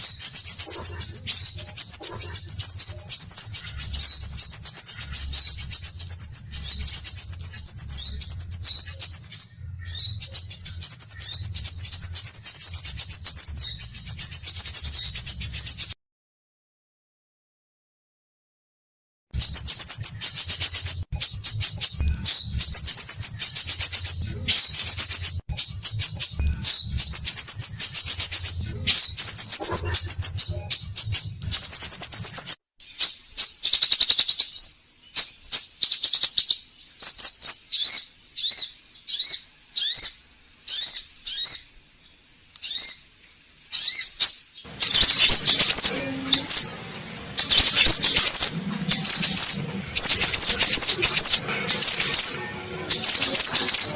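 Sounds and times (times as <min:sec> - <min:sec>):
bird twittering song: 0:00.0 - 0:16.0, 0:19.4 - 0:53.9.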